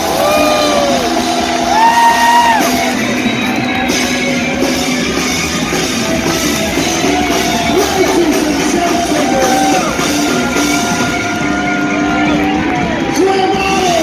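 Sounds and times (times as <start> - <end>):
live heavy metal band playing: 0.0 - 14.0.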